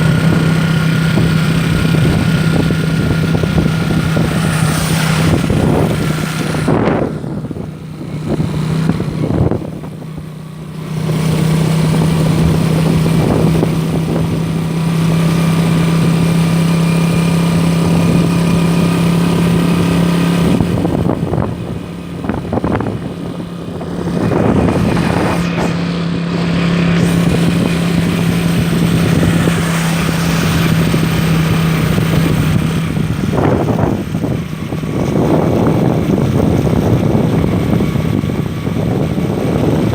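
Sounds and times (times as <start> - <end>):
motorboat engine running: 0.0 - 39.9
rushing wind: 0.0 - 39.9
water noise: 0.0 - 39.9.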